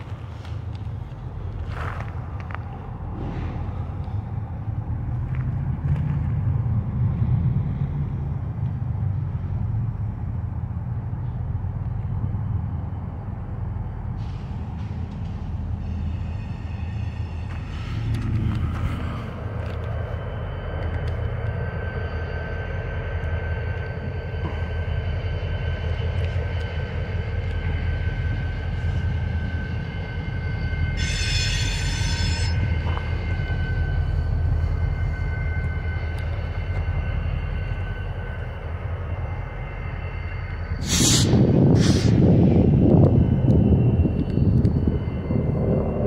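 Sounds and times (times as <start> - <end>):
diesel locomotive engines rumbling: 0.0 - 46.0
locomotive whine: 0.0 - 46.0.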